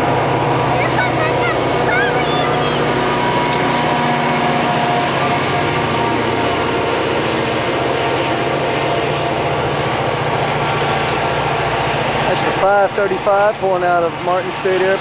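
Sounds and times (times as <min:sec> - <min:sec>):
diesel locomotive engine drone: 0:00.0 - 0:15.0
high engine whine: 0:00.0 - 0:15.0.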